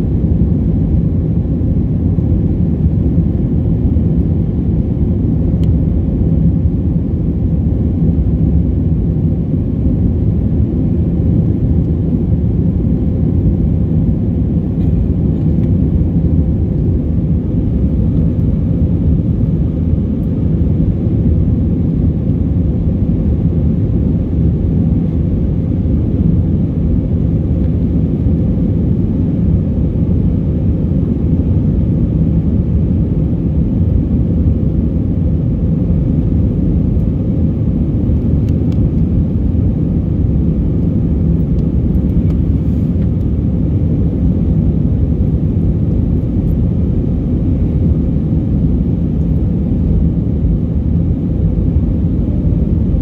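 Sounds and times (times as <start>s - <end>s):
airliner engine rumble: 0.0s - 53.0s
faint steady hum: 0.0s - 53.0s.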